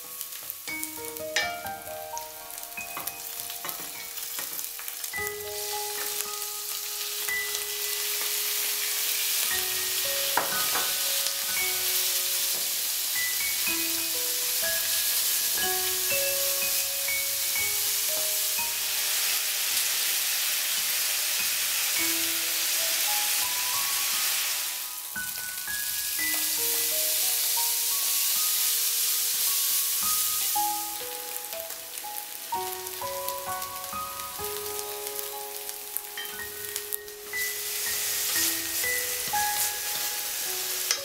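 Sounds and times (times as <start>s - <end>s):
food sizzling in a pan: 0.0s - 41.0s.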